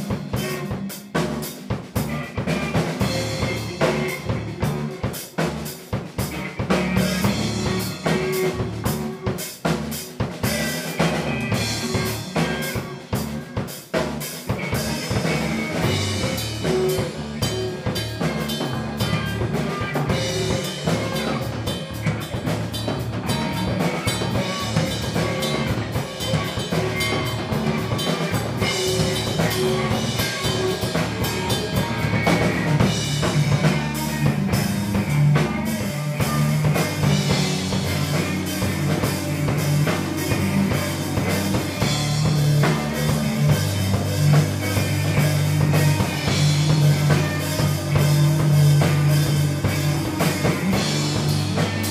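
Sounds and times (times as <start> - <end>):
drum kit playing a busy beat: 0.0 - 51.9
other band instruments: 0.0 - 51.9.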